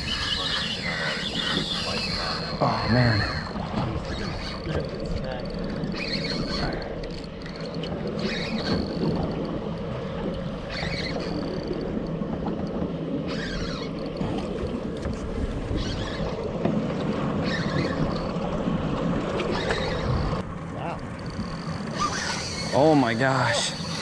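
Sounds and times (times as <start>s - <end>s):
outboard motors droning: 0.0s - 24.0s
water noise: 0.0s - 24.0s.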